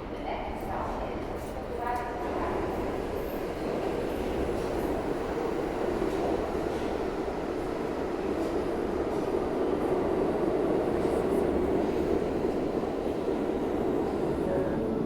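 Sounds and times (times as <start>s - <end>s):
subway car wheels rumbling on rail: 0.0s - 15.0s.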